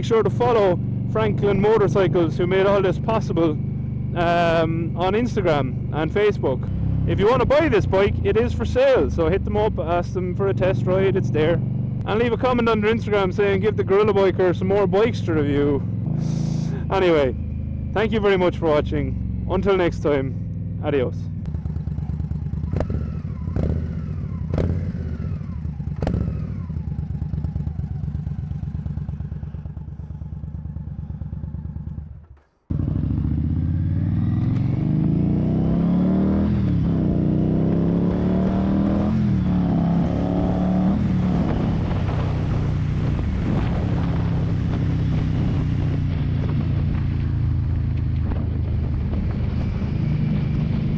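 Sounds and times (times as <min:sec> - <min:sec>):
motorcycle accelerating through gears: 0:00.0 - 0:50.9
motorcycle engine idling and revving: 0:00.0 - 0:50.9.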